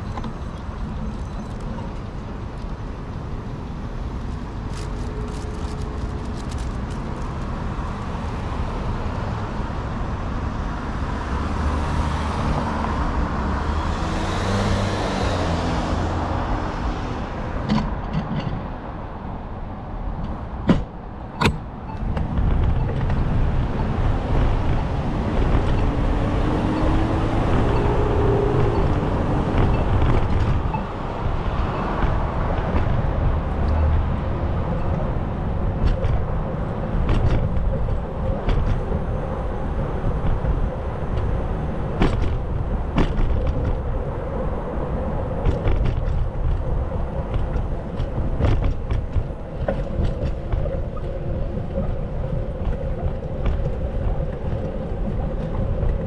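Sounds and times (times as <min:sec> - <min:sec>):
cars passing rumble: 0:00.0 - 0:56.0.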